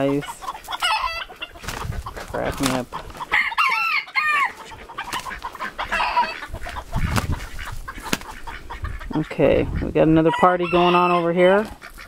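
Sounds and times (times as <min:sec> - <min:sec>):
roosters scuffling and wing-flapping: 0:00.0 - 0:09.1, 0:10.9 - 0:12.0
chickens clucking and squawking: 0:00.0 - 0:12.0.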